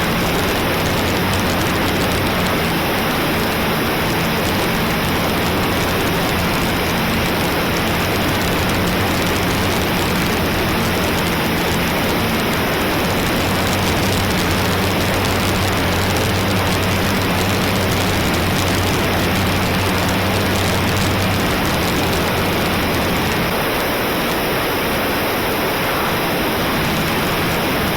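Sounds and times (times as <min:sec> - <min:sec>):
model plane motor drone: 0:00.0 - 0:27.9.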